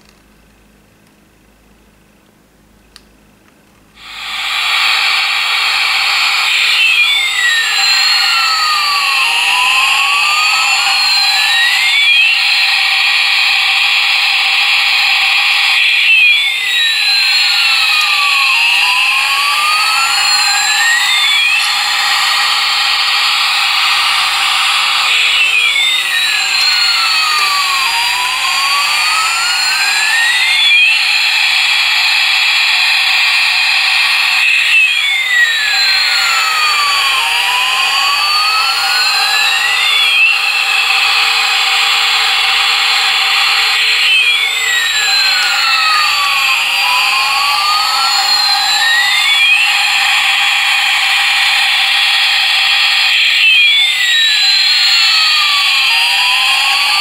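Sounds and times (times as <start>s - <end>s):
toy jet engine whine: 3.9s - 57.0s.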